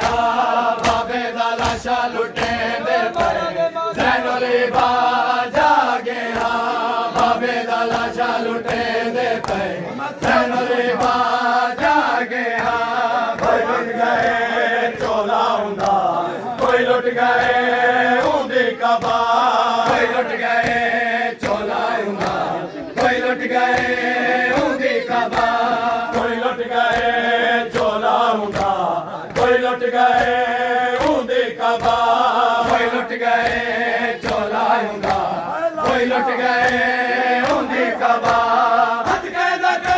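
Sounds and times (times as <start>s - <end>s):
hands slapping chests: 0.0s - 39.9s
men chanting in unison: 0.0s - 39.9s.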